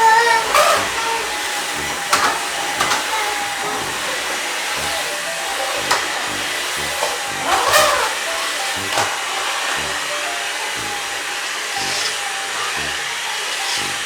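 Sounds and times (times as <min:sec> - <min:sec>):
vacuum cleaner whooshing: 0:00.0 - 0:14.0.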